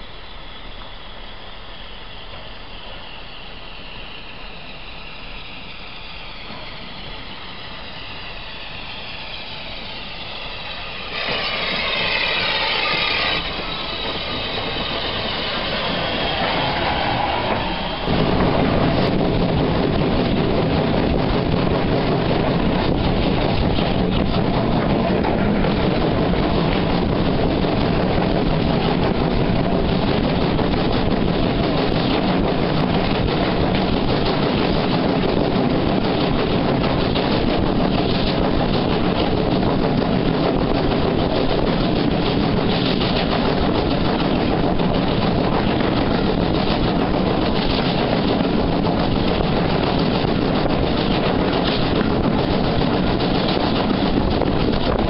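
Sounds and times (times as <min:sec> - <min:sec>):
train rumble and rush: 0:00.0 - 0:55.0
wind buffeting microphone: 0:04.9 - 0:55.0.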